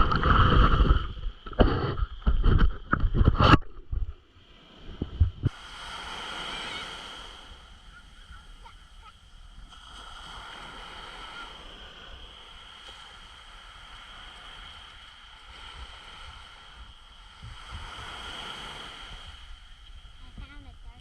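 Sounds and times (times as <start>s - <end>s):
sea water sloshing and gurgling: 0.0s - 21.0s.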